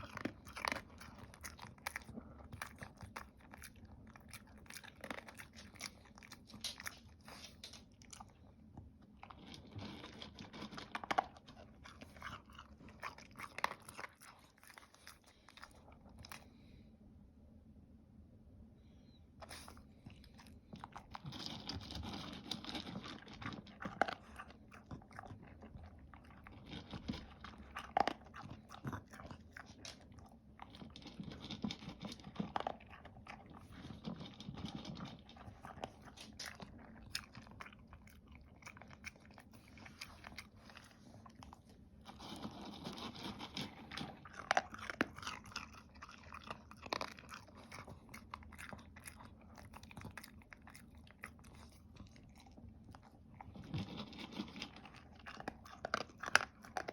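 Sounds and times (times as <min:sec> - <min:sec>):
dog crunching and chewing food: 0:00.0 - 0:16.5, 0:19.5 - 0:56.9.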